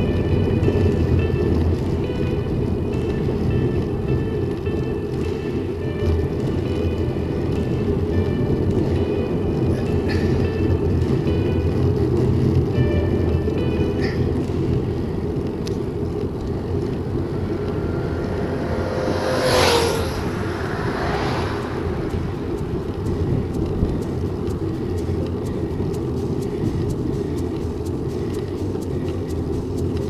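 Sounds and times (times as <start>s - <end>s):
motor vehicle passing: 0.0s - 30.0s
wind rumble on microphone: 0.0s - 30.0s.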